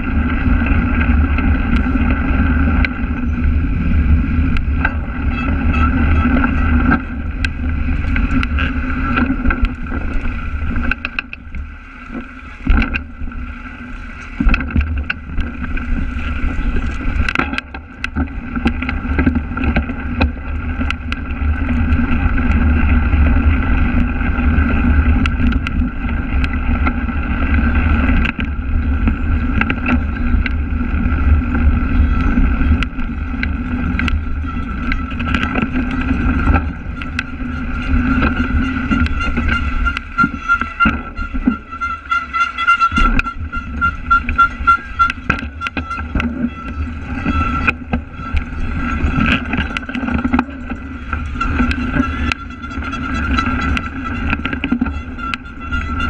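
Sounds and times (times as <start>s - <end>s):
bike knocking and rattling: 0.0s - 56.0s
low rumble of bike on grass: 0.0s - 56.0s
wind buffeting: 0.0s - 56.0s.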